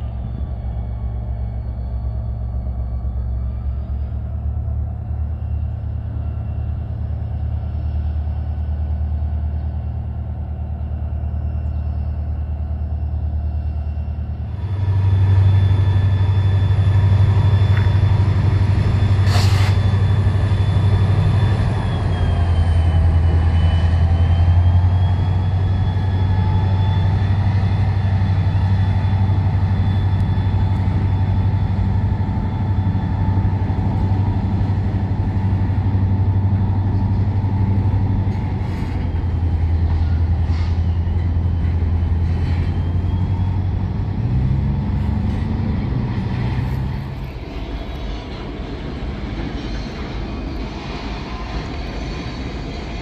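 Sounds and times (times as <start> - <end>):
diesel locomotive rumble: 0.0 - 53.0.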